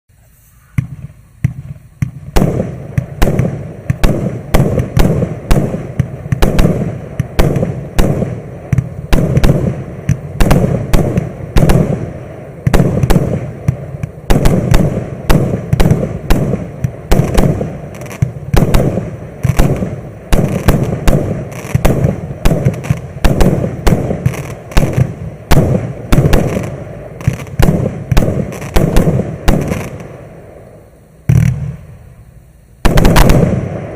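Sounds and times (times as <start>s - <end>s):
firework cake shots bursting: 0.7s - 30.2s, 32.8s - 33.9s.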